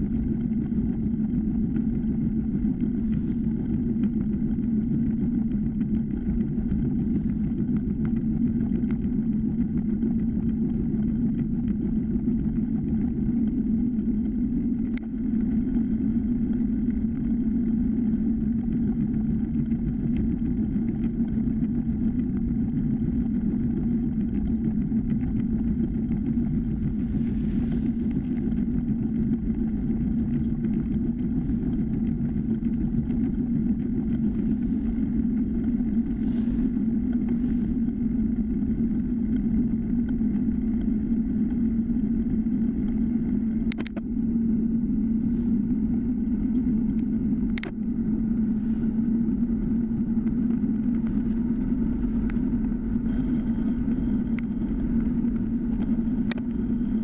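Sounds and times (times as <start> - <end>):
wind and tyre rumble: 0.0 - 57.0.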